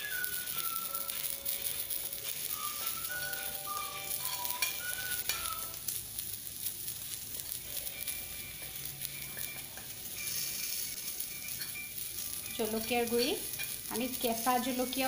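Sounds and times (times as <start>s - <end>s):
food sizzling in a pressure cooker: 0.0s - 15.0s
metal spoon stirring and tapping: 0.3s - 5.8s, 7.4s - 15.0s.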